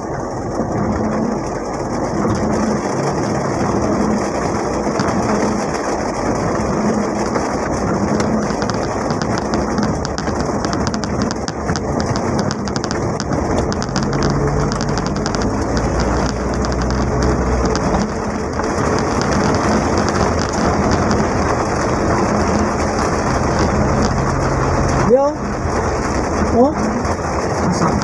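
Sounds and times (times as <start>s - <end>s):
rain on vehicle roof: 0.0s - 28.0s
vehicle engine drone: 0.0s - 28.0s.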